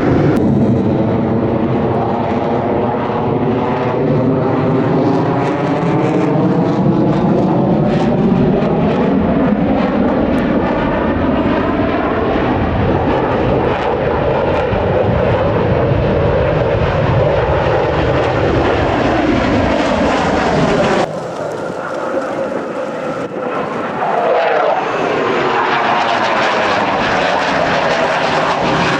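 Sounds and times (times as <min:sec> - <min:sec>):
aircraft engine flying past: 0:00.0 - 0:28.9.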